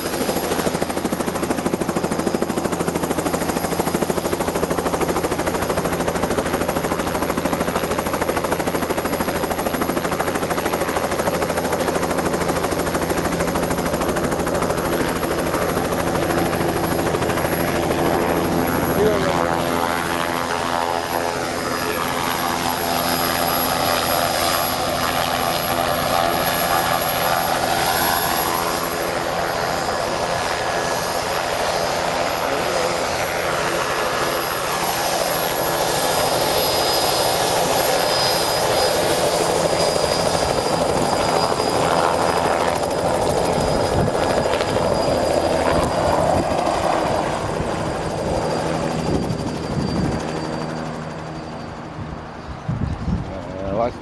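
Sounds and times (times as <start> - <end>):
helicopter rotor beat: 0.0 - 54.0
high turbine whine: 0.0 - 54.0.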